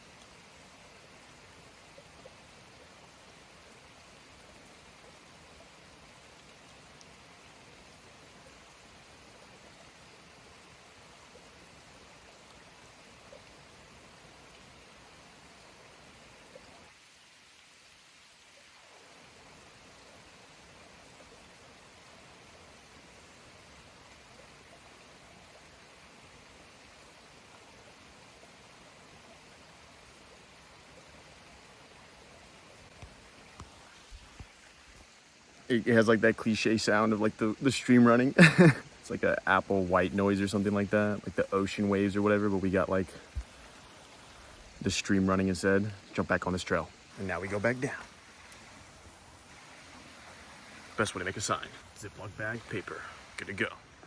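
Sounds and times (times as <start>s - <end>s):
forest stream running: 0.0s - 54.0s.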